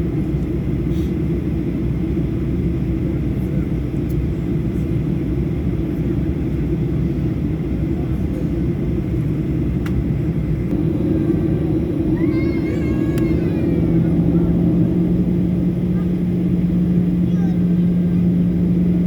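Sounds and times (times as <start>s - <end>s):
airliner cabin rumble: 0.0s - 19.0s
low engine hum: 0.0s - 19.0s.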